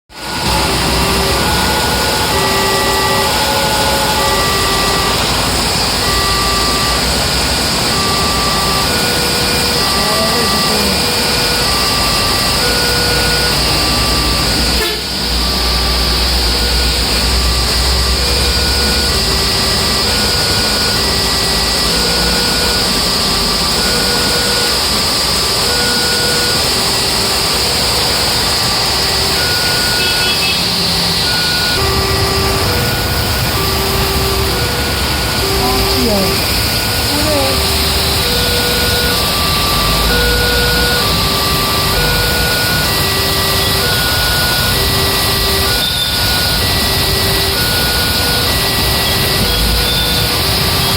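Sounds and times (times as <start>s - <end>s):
train rumbling past: 0.1s - 23.8s, 26.8s - 47.8s
heavy rain: 0.1s - 50.9s
level-crossing alarm tones: 0.1s - 50.9s.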